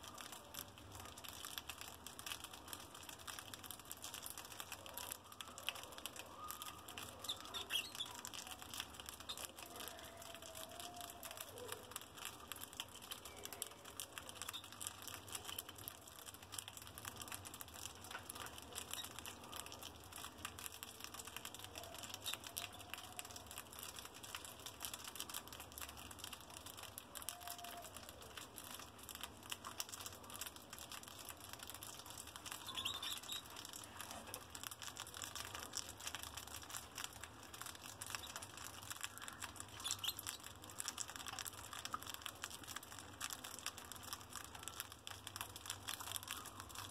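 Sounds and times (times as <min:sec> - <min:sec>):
mice crunching food pellets: 0:00.0 - 0:46.9.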